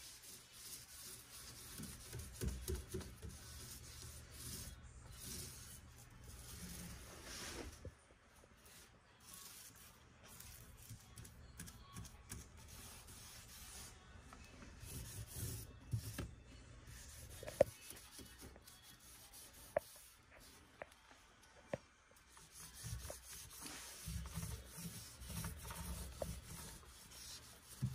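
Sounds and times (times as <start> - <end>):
paint roller swishing on wood: 0.0 - 7.9, 8.6 - 11.3, 12.3 - 16.3, 16.9 - 20.7, 22.2 - 27.9.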